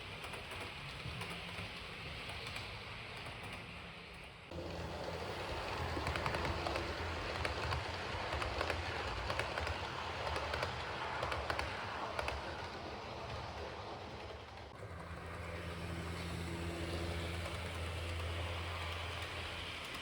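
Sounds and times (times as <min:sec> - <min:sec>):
model train rattling rumble: 0:00.0 - 0:20.0
wheels clicking over rail joints: 0:00.0 - 0:20.0.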